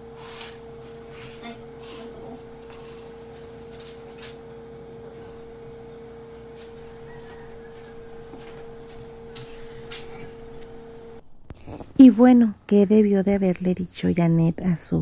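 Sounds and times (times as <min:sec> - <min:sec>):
room noise: 0:00.0 - 0:14.2
electrical hum: 0:00.0 - 0:15.0.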